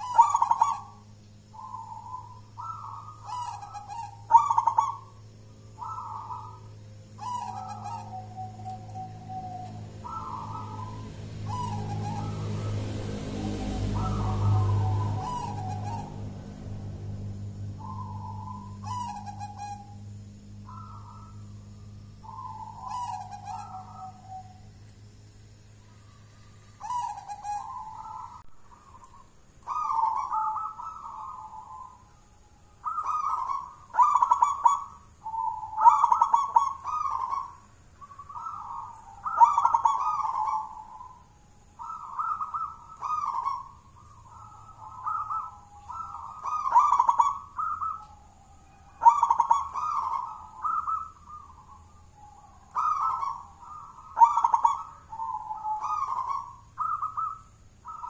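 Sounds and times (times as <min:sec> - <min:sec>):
dove cooing trilled song: 0:00.0 - 0:58.0.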